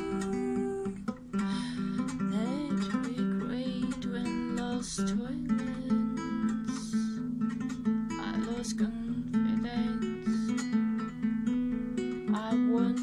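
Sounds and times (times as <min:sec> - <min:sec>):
acoustic guitar strummed: 0:00.0 - 0:13.0.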